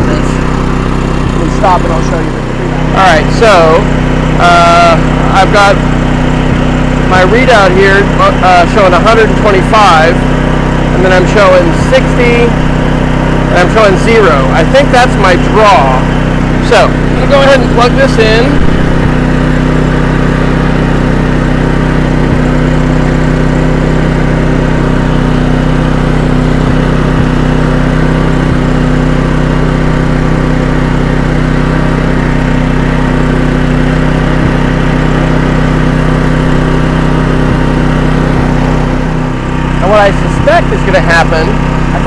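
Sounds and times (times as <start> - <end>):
generator engine humming: 0.0 - 42.0.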